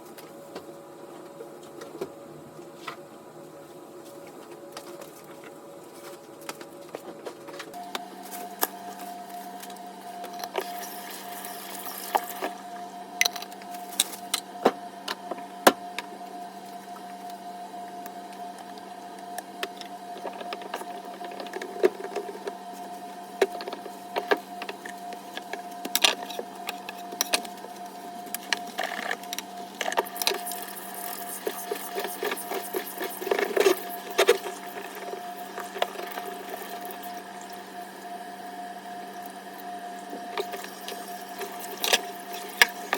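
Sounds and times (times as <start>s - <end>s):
steady hum: 7.3s - 42.9s.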